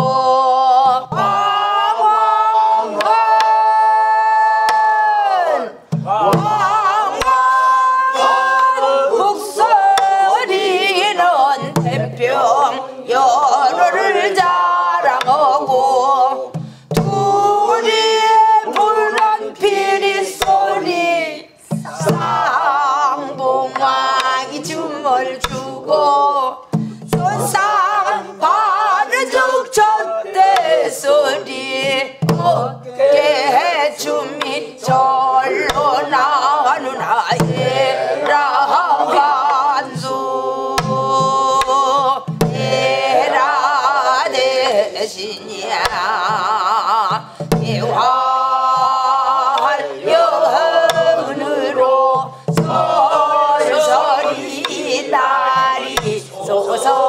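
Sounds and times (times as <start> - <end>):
stick beating barrel drum: 0.0 - 57.0
woman singing folk song: 0.0 - 57.0.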